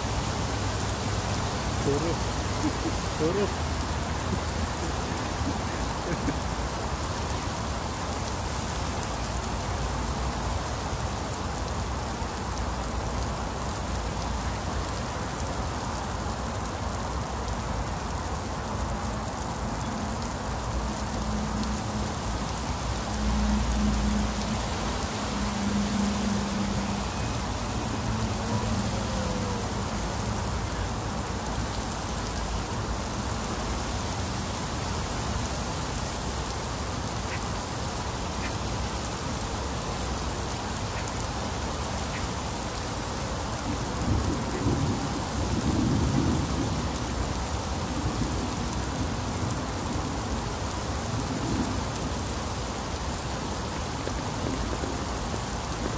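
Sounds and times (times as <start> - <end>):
very heavy rain: 0.0 - 55.9.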